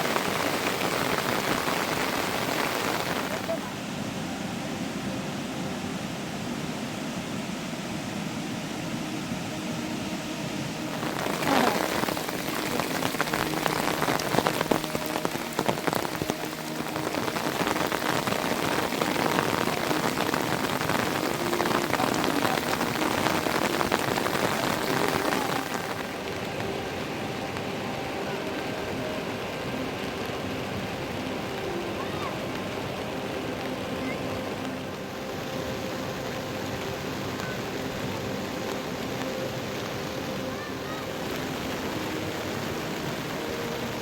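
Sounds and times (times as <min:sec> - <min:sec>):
heavy rain hissing: 0:00.0 - 0:44.0
raindrops hitting a surface: 0:00.0 - 0:44.0.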